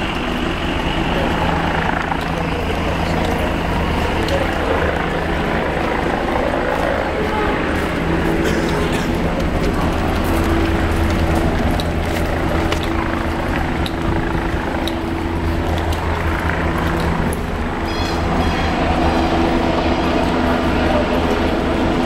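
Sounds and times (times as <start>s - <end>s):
low engine drone: 0.0s - 22.0s
street noise: 0.0s - 22.0s.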